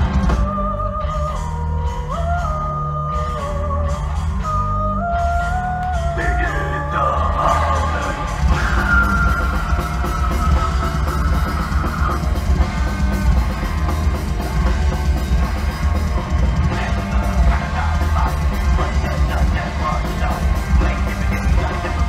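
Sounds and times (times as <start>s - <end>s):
bass guitar: 0.0s - 22.0s
distorted electric guitars: 0.0s - 22.0s
pounding drum kit: 0.0s - 22.0s.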